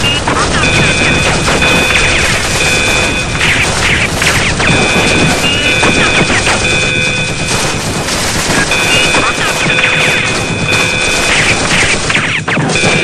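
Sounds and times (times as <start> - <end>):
dense gunfire: 0.0 - 13.0
explosions: 0.0 - 13.0
high steady alarm tone: 0.0 - 13.0.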